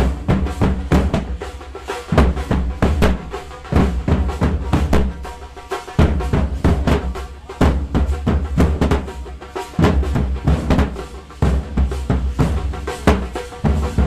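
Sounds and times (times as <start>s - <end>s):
music with heavy drumming: 0.0s - 14.0s.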